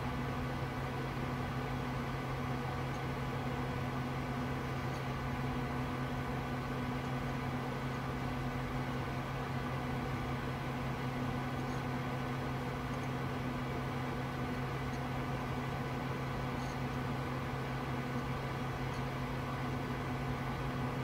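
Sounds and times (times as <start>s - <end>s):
computer fans humming: 0.0s - 21.0s.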